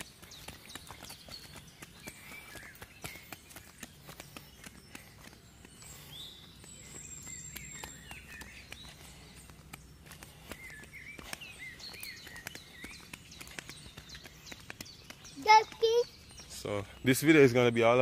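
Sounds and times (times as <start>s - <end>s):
birds chirping: 0.0s - 18.0s
footsteps on paved road: 0.0s - 18.0s.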